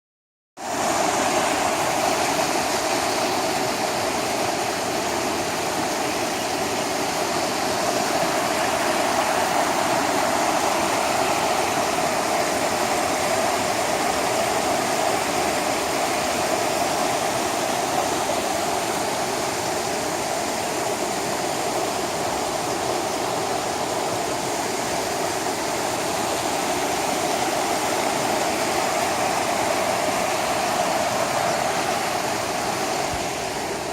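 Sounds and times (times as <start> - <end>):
stream rushing: 0.6 - 33.9.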